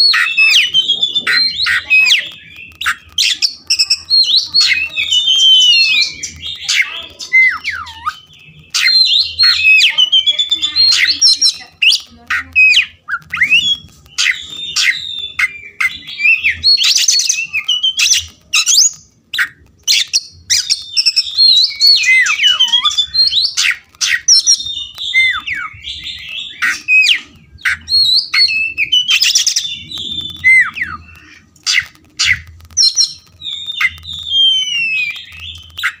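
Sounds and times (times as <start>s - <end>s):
bird singing whistled notes: 0.0s - 36.0s
sharp bird clicking notes: 0.0s - 36.0s.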